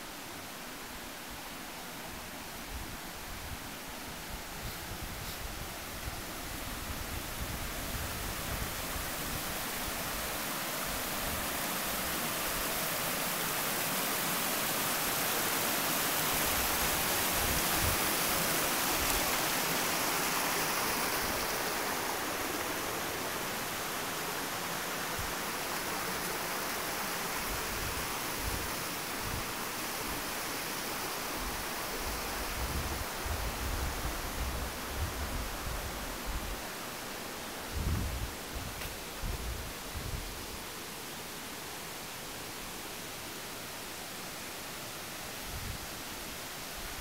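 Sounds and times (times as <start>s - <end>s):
stream rushing over boulders: 0.0s - 47.0s.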